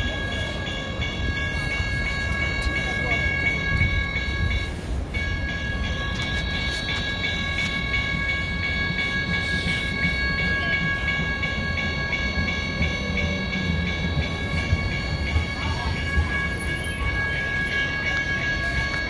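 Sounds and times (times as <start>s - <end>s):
train low rumble: 0.0s - 19.0s
train wheels squealing: 0.0s - 19.0s.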